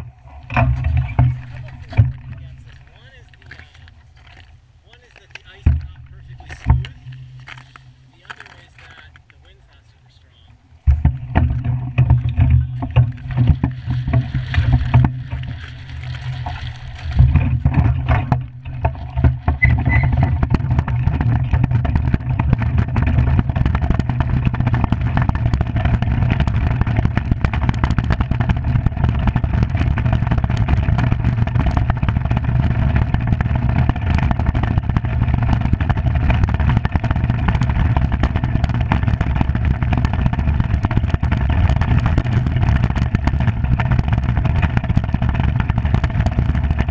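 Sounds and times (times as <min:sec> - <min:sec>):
iceboat runners rumbling over ice: 0:00.0 - 0:46.9.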